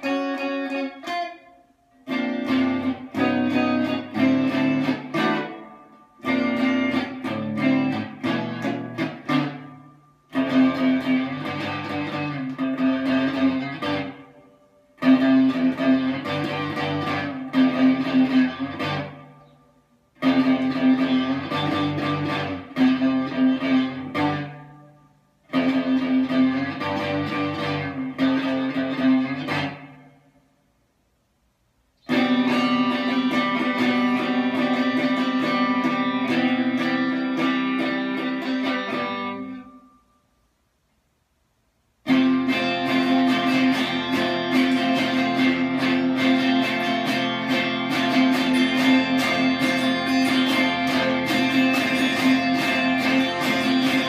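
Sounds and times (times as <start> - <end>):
electric guitar riff: 0.0 - 30.5, 32.0 - 40.4, 41.9 - 54.0.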